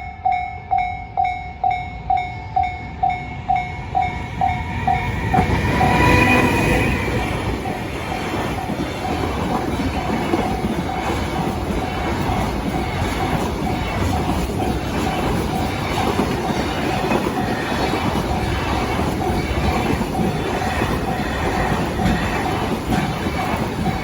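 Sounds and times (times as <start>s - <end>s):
freight train rumbling past: 1.4s - 24.0s
wheels clattering over rail joints: 4.4s - 24.0s.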